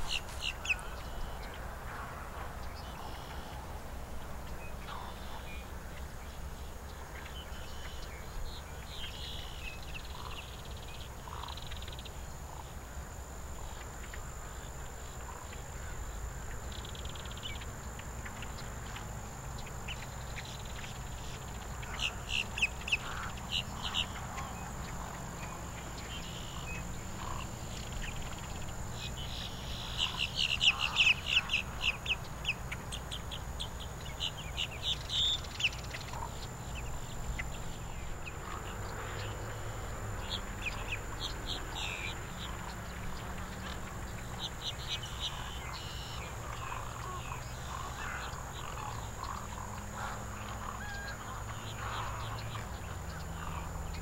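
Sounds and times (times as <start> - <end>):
birds chirping: 0.0 - 3.6, 13.7 - 54.0.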